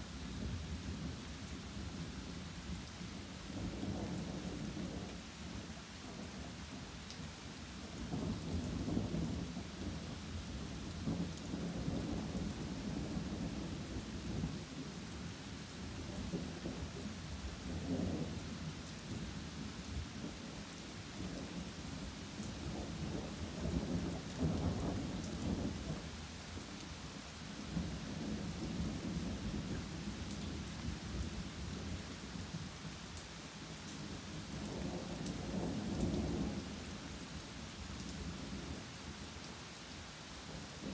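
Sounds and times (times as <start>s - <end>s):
rain falling on trees: 0.0s - 40.9s.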